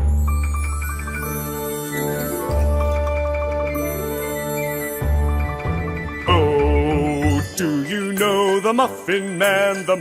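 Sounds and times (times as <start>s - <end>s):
mallet percussion melody: 0.0s - 9.0s.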